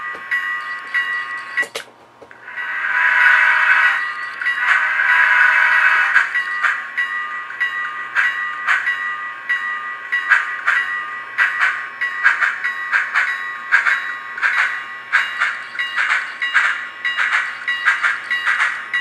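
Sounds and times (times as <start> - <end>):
model steam locomotive chuffs: 0.0 - 19.0.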